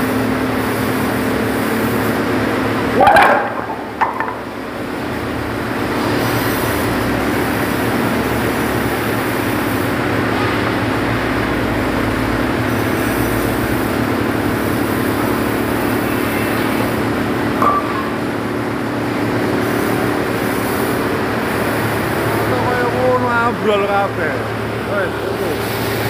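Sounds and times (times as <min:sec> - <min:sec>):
forklift engine running: 0:00.0 - 0:26.0.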